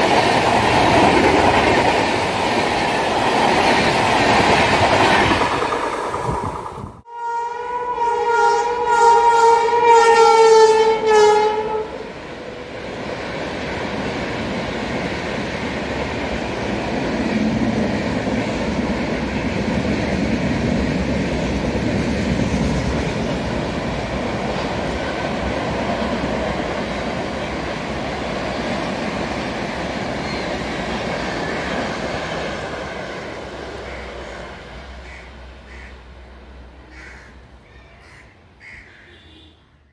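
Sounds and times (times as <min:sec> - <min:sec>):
train wheels rumbling on rails: 0:00.0 - 0:07.1, 0:11.7 - 0:37.0.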